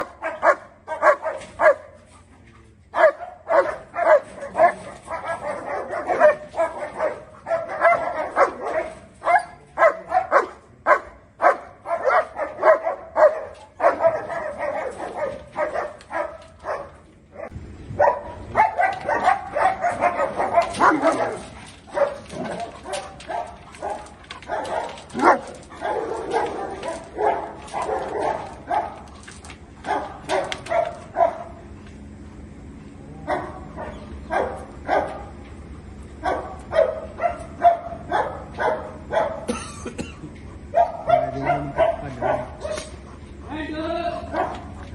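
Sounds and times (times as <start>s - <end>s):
dog barking angrily: 0.0s - 2.0s, 2.9s - 31.8s, 33.2s - 35.4s, 36.2s - 39.7s, 40.6s - 43.6s, 44.2s - 44.9s.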